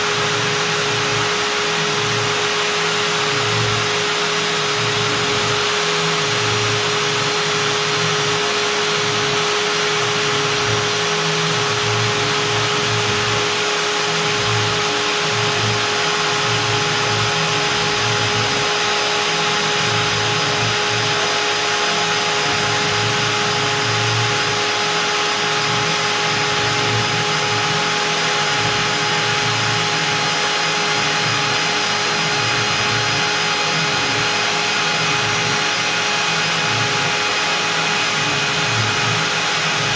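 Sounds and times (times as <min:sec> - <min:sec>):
router bit cutting wood: 0:00.0 - 0:39.9
router spindle whine: 0:00.0 - 0:39.9.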